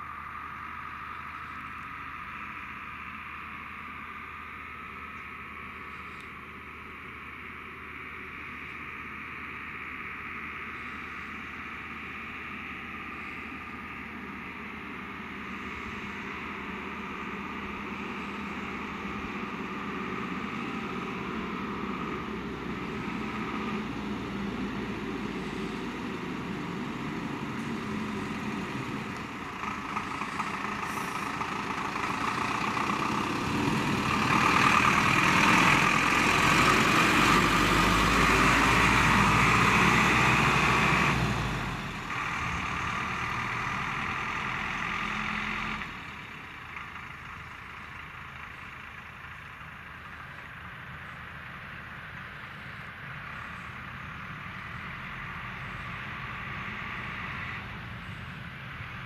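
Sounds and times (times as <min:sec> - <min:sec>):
fire engine diesel engine passing: 0:00.0 - 0:59.0.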